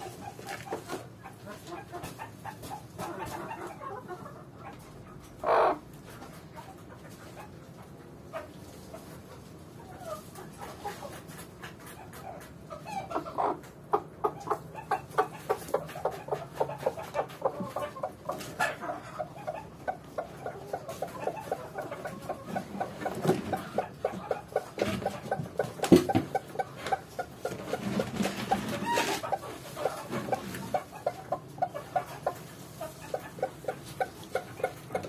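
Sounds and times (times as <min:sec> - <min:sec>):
hen clucking: 0:00.0 - 0:35.0.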